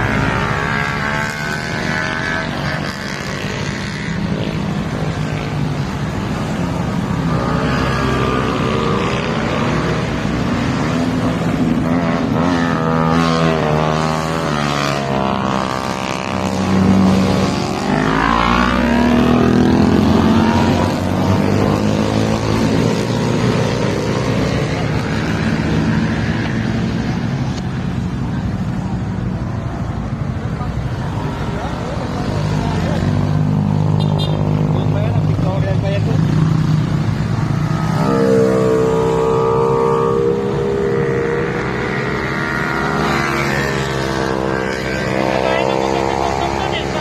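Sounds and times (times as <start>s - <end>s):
motorcycle engine revving: 0.0s - 47.0s
wind and road noise: 0.0s - 47.0s.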